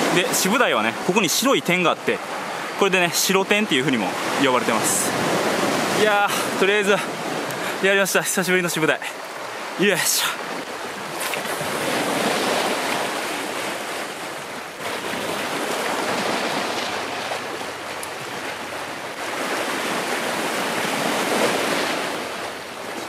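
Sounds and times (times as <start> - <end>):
sea waves washing over rocks: 0.0 - 23.0.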